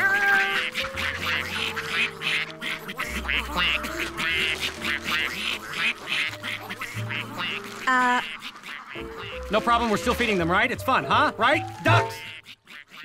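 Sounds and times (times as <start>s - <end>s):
light background music: 0.0s - 12.4s
cartoon ducks quacking: 0.0s - 13.0s.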